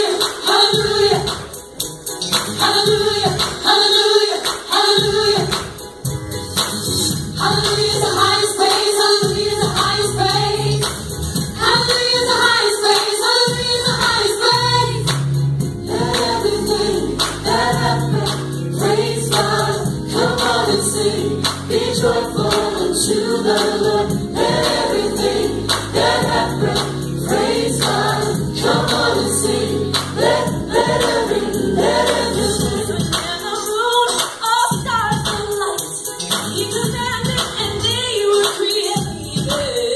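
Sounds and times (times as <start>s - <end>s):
group of singers: 0.0s - 1.8s, 2.4s - 5.9s, 7.3s - 34.8s.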